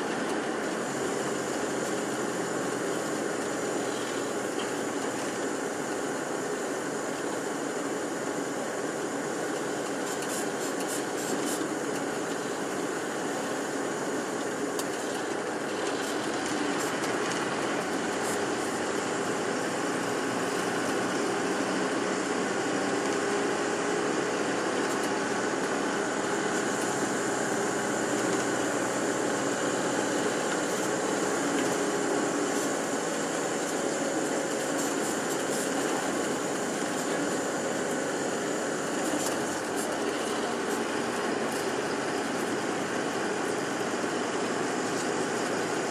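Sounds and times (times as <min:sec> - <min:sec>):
bus engine and road noise: 0:00.0 - 0:45.9.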